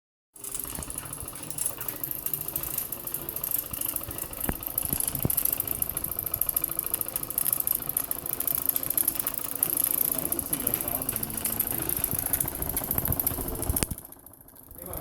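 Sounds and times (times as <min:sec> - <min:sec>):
toy steam engine chattering: 0:00.4 - 0:15.0.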